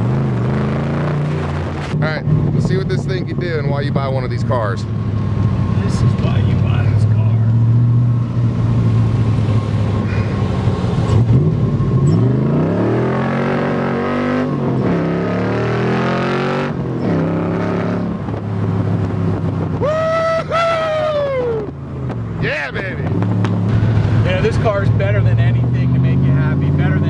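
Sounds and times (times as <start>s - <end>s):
car engine accelerating hard: 0.0s - 20.0s, 22.7s - 27.0s.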